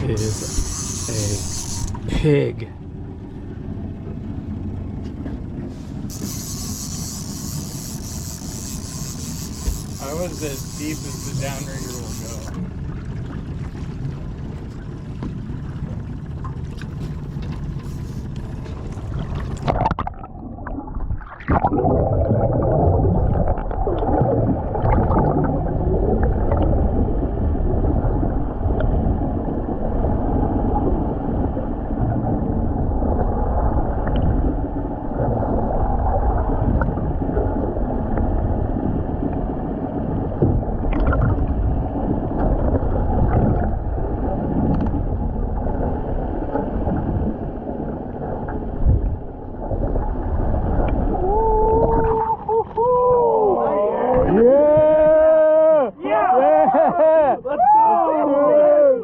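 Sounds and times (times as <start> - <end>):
boat engine rumble: 0.0 - 59.0
water against hull: 0.0 - 59.0.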